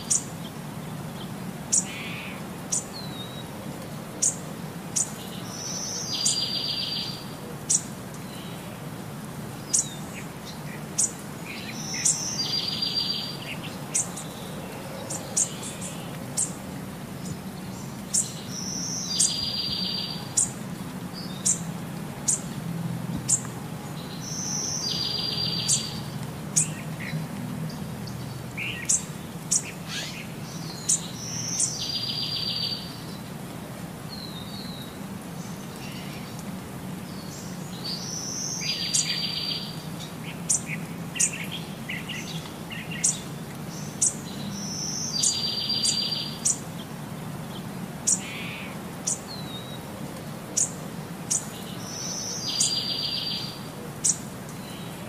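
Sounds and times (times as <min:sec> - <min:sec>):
birds chirping: 0:00.0 - 0:33.3, 0:34.0 - 0:55.0
low background noise: 0:00.0 - 0:55.0.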